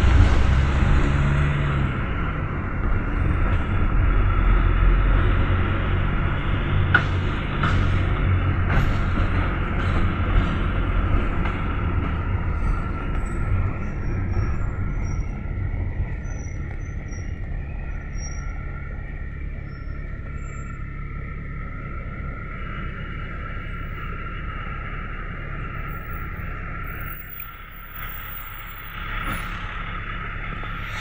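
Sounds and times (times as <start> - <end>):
minibus engine and road rumble: 0.0 - 31.0.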